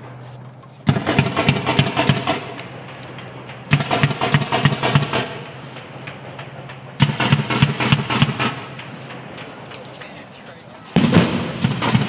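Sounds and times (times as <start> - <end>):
automatic gunfire bursts: 0.8 - 9.7, 10.9 - 12.0.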